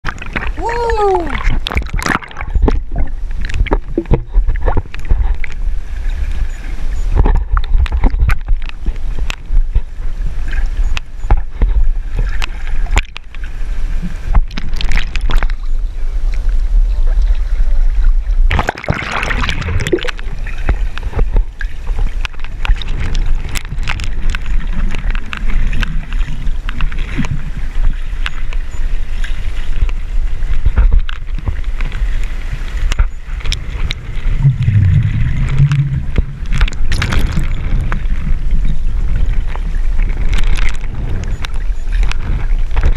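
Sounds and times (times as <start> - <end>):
underwater rumble: 0.0 - 42.9
water splashing: 0.0 - 42.9.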